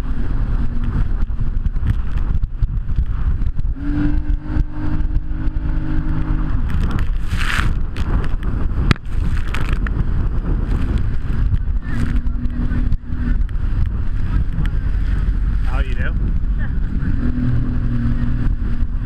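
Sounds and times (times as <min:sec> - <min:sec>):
jet ski engine running: 0:00.0 - 0:19.0
wind buffeting microphone: 0:00.0 - 0:19.0.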